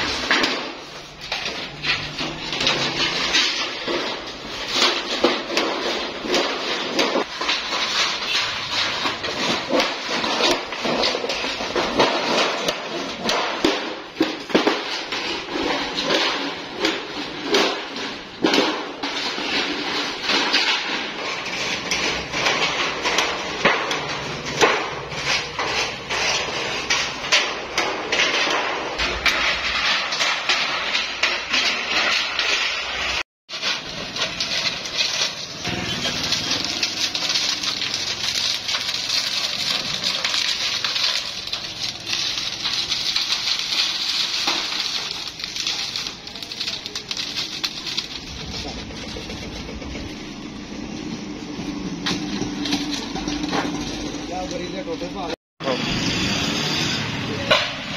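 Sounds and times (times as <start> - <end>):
sheet metal crinkling and rattling: 0.0 - 55.7.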